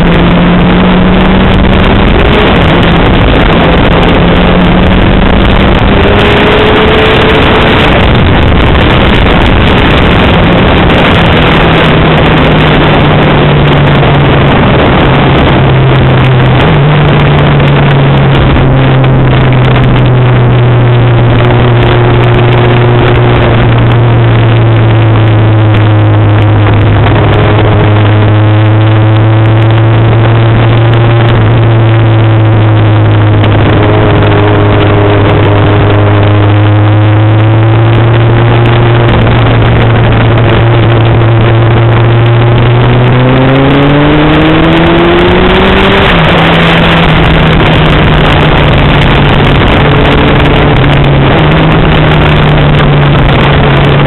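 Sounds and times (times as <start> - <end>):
engine running loud: 0.0 - 54.0
heavy rushing noise: 0.0 - 54.0.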